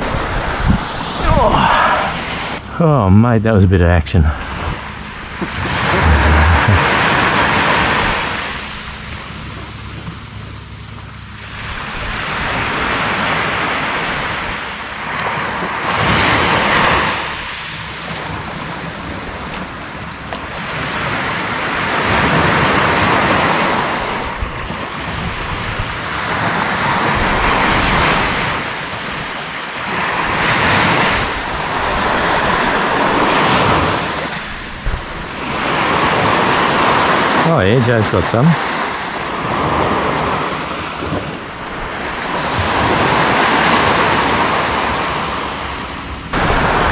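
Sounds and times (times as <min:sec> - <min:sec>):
surf breaking on a beach: 0:00.0 - 0:10.0, 0:11.3 - 0:46.9.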